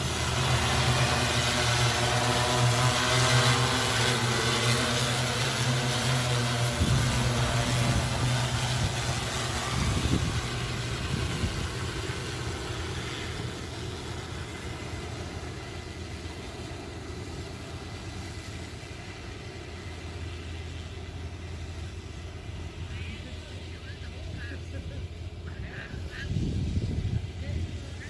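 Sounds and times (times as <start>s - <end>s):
drone rotors humming: 0.0s - 28.0s.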